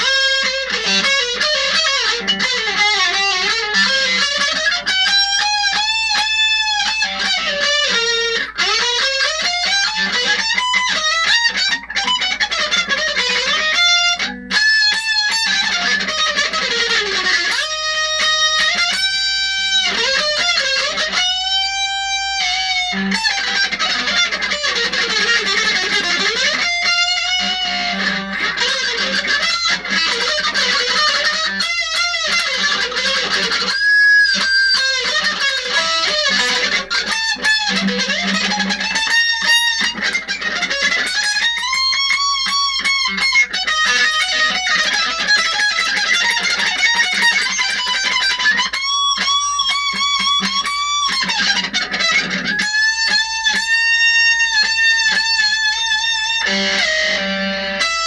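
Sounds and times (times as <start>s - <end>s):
electric guitar lead solo: 0.0s - 58.0s.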